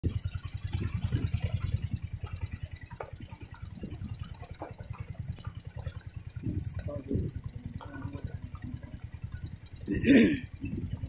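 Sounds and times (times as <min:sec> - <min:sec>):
knocks and rattles: 0:00.0 - 0:11.0
motorcycle engine running: 0:00.0 - 0:11.0.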